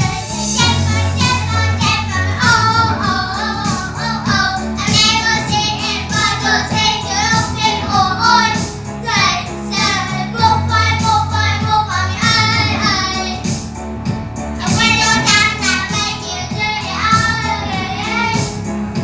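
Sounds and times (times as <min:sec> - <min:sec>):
high lead vocal singing: 0:00.0 - 0:13.6, 0:14.6 - 0:18.6
pop song: 0:00.0 - 0:19.0.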